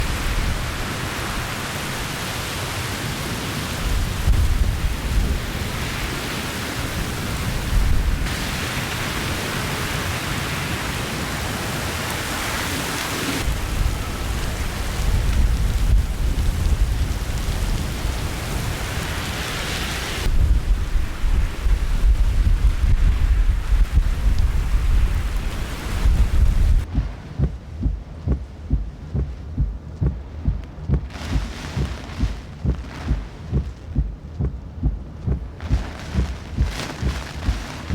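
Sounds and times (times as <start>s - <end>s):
heavy rain: 0.0s - 28.2s, 28.8s - 37.9s
wind rumbling on microphone: 0.0s - 37.9s.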